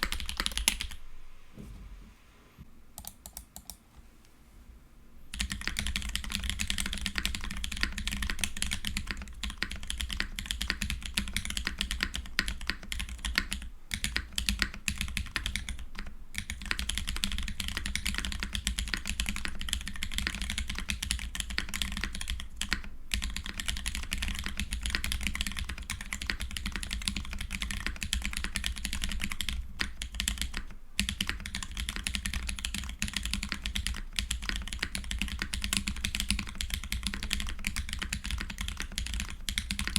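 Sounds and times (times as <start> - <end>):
fast typing on keyboard: 0.0 - 1.0, 5.3 - 39.9.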